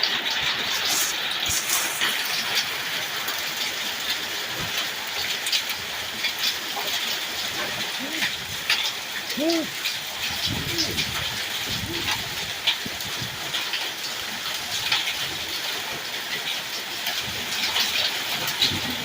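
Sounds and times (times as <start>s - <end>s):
hailstones striking: 0.0s - 19.0s
heavy rain pouring: 0.0s - 19.0s.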